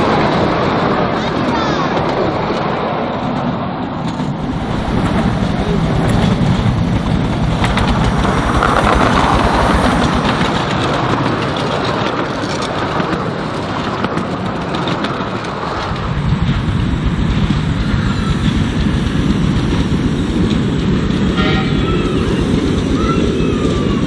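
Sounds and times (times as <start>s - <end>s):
carriages rumbling and clicking on rails: 0.0s - 24.0s
steam locomotive passing: 0.0s - 24.0s.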